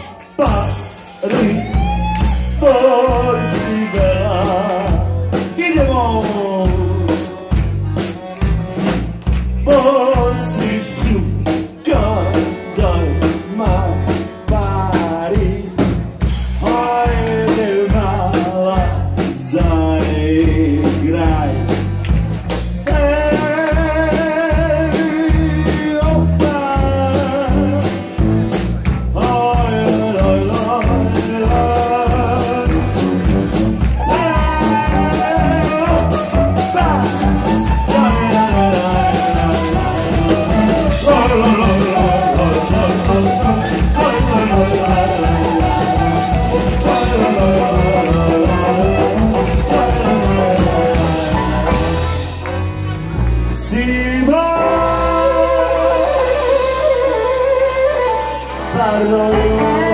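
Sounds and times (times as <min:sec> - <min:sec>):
live band playing: 0:00.0 - 0:59.9
steady drum beat: 0:00.4 - 0:52.8.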